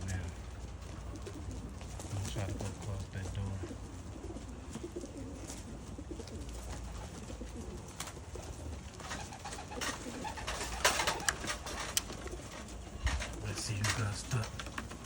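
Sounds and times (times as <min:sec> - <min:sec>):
pigeons cooing: 0:00.0 - 0:15.0
rustles: 0:00.0 - 0:15.0.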